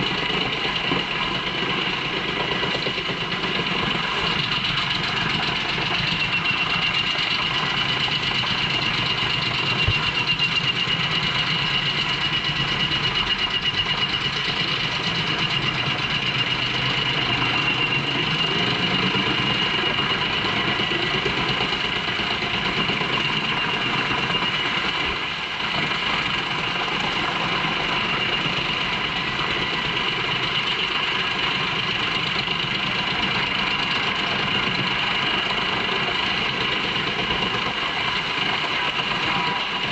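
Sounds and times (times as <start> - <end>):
wood chipper droning with whine: 0.0 - 39.9.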